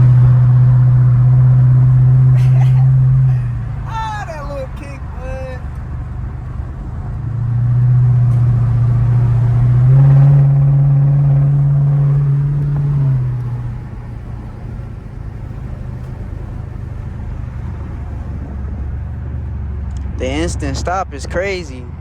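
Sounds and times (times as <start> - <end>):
car engine accelerating: 0.0 - 22.0
road rumble: 0.0 - 22.0.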